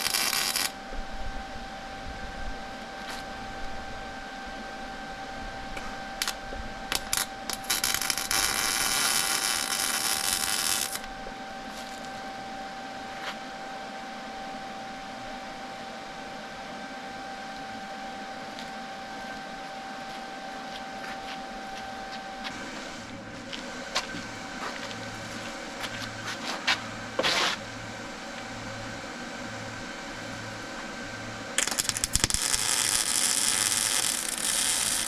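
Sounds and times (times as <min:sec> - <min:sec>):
high electrical hum: 0:00.0 - 0:35.0.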